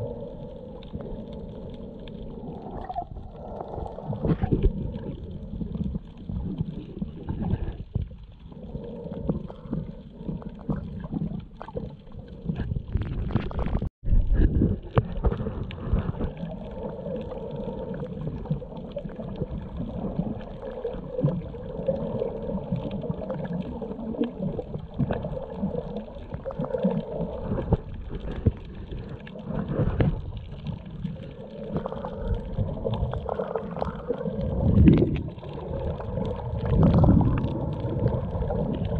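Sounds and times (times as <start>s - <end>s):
underwater water rumble and gurgle: 0.0s - 38.9s.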